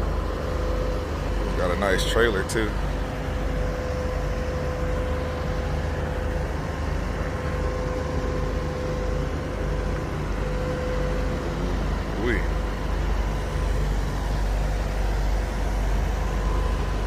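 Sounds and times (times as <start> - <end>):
idling heavy diesel drone: 0.0 - 17.0
steady hum tone: 0.0 - 17.0.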